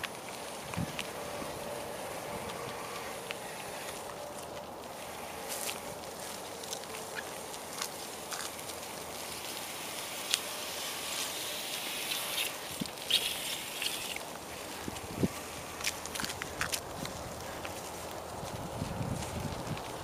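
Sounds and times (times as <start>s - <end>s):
bicycle tyres rolling on asphalt: 0.0s - 20.0s.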